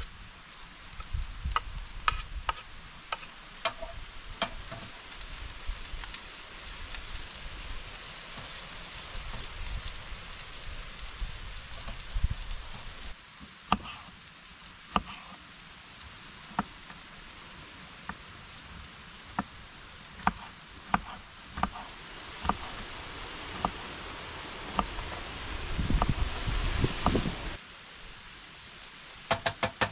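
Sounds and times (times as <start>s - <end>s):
food sizzling in a frying pan: 0.0s - 29.3s.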